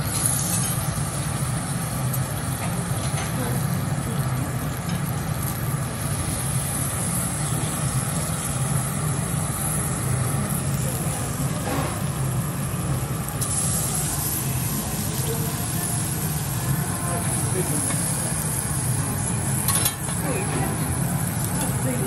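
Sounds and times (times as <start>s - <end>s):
beef sizzling on griddle: 0.0s - 22.0s
ventilation hum and rush: 0.0s - 22.0s.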